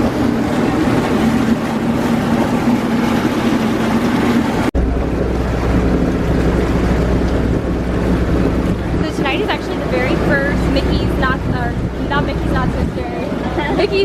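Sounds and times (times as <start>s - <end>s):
boat engine running: 0.0s - 14.0s
water noise: 0.0s - 14.0s
wind on microphone: 0.0s - 14.0s.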